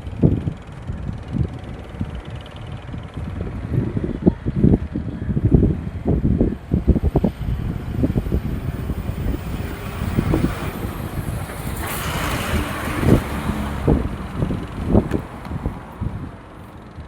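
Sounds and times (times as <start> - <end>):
wind buffeting microphone: 0.0 - 17.0
road vehicle passing: 0.2 - 17.0.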